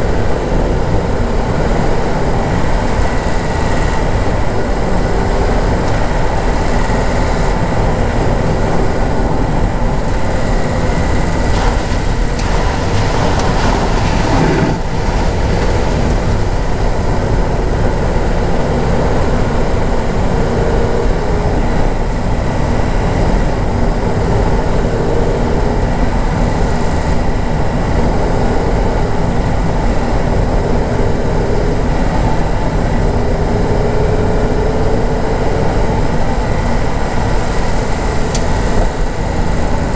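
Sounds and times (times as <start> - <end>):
engine and tyres rumbling: 0.0 - 39.9.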